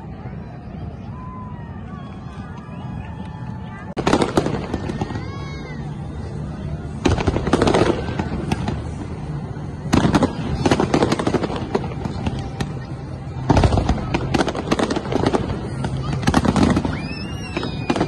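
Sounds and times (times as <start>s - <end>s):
fireworks bangs and crackles: 2.3s - 18.0s.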